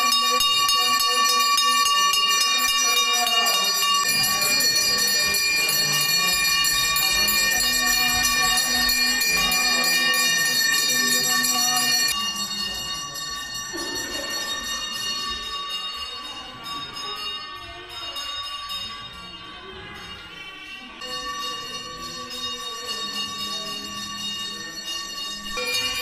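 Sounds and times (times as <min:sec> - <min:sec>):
bells ringing: 0:00.0 - 0:26.0
rapid jingling shimmer: 0:00.0 - 0:26.0.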